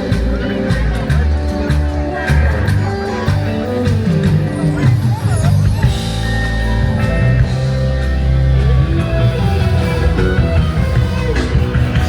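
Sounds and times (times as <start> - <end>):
live band music with guitar: 0.0 - 12.0.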